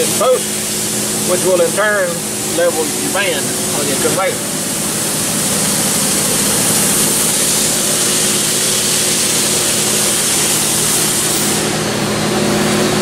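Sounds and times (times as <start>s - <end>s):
saw hiss: 0.0s - 12.0s
band saw motor hum: 0.0s - 13.0s.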